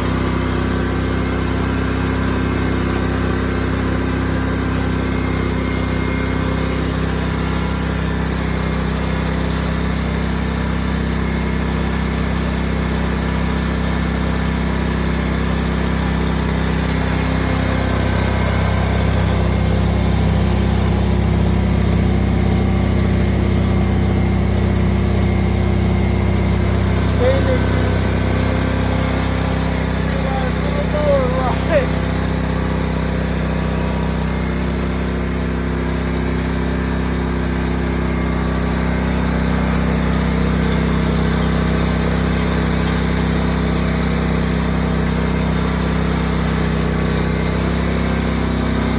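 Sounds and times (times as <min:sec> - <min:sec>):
riding lawn mower engine: 0:00.0 - 0:48.9.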